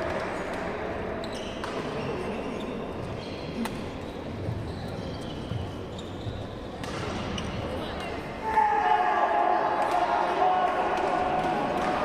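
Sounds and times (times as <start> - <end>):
sports hall background noise: 0.0 - 12.0.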